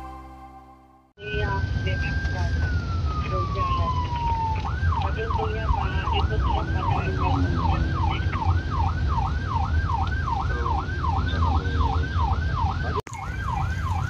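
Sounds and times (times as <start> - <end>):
low rumble of engine and road: 1.2 - 14.0
police siren yelping: 1.2 - 14.0.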